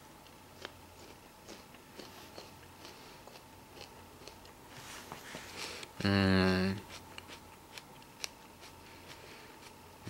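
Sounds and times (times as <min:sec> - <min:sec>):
low room hum: 0:00.0 - 0:10.0
person chewing fruit: 0:00.2 - 0:10.0.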